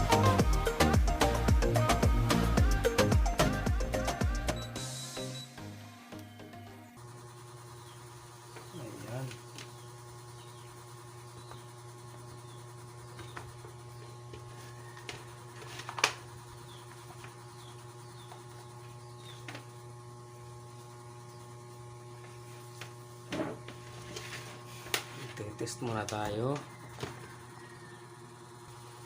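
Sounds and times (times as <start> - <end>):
low electrical hum: 4.6 - 29.0.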